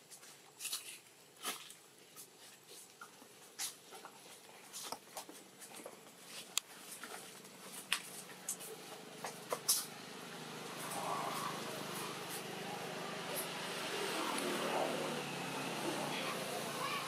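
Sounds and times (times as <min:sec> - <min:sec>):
monkey chewing fruit: 0:00.3 - 0:16.8.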